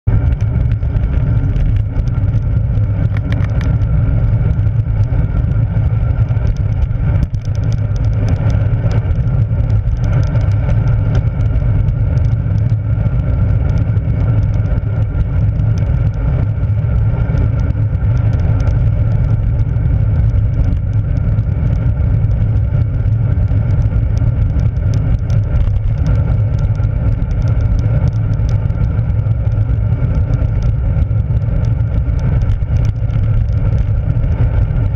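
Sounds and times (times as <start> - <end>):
road noise: 0.0 - 34.9.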